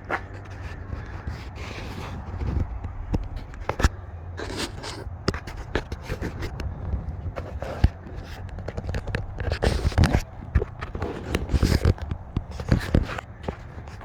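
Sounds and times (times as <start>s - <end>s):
footsteps: 0.0s - 14.0s
scraping and clicking handling noise: 0.0s - 14.0s
steady low rumble: 0.0s - 14.0s.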